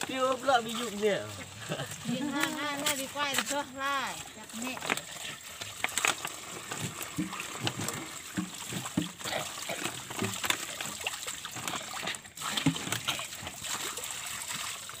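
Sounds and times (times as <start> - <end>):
plastic bottles clicking and knocking: 0.0 - 13.6
water filling plastic bottles: 0.0 - 15.0
water trickling onto stones: 0.0 - 15.0.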